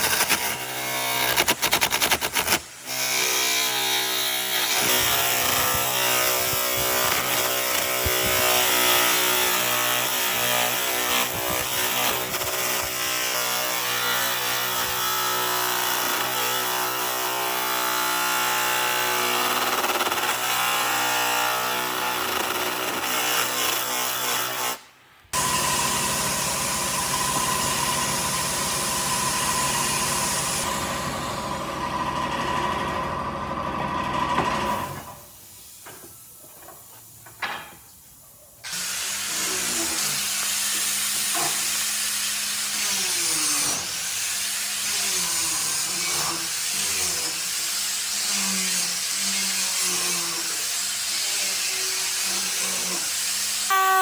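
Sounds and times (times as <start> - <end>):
power tools cutting wood: 0.0 - 35.1, 38.6 - 54.0.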